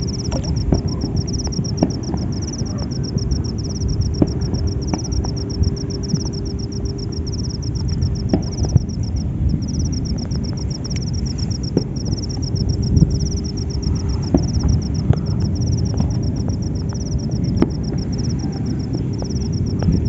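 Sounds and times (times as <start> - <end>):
faint steady hum: 0.0 - 20.0
insect chirping in high pulses: 0.0 - 20.0
wind buffeting microphone: 0.0 - 20.0.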